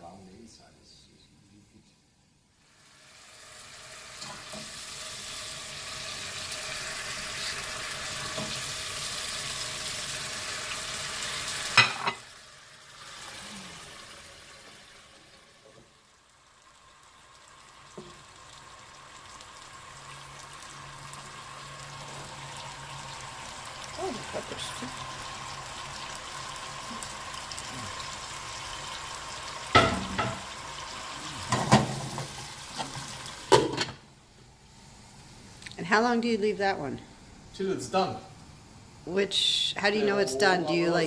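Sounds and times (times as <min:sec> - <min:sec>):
meat sizzling in oil: 0:02.6 - 0:35.7.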